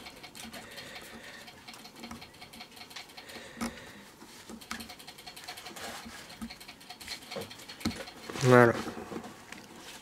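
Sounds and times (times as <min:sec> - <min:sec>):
fingers handling circuit board: 0:00.0 - 0:08.8.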